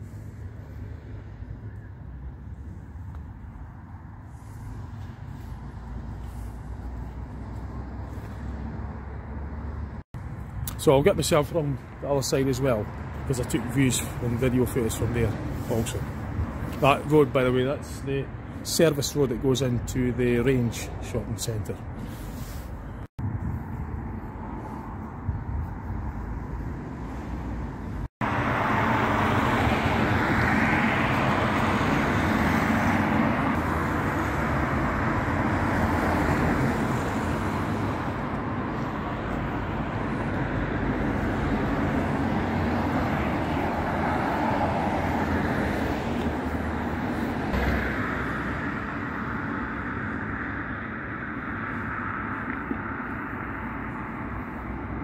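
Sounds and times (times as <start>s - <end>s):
road traffic noise: 0.0s - 55.0s.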